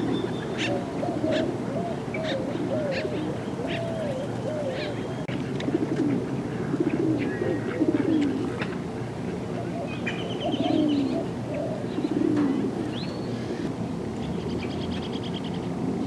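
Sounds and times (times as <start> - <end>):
low wavering bird calls: 0.0 - 13.7.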